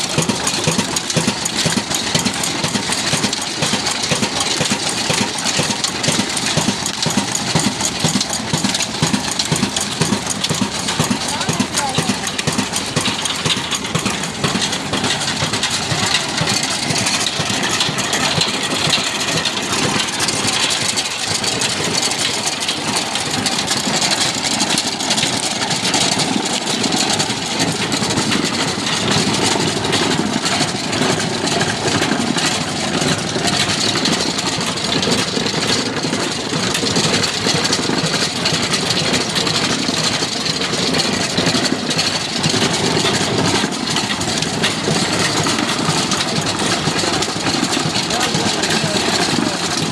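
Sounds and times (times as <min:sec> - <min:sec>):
stationary engine running: 0:00.0 - 0:49.9.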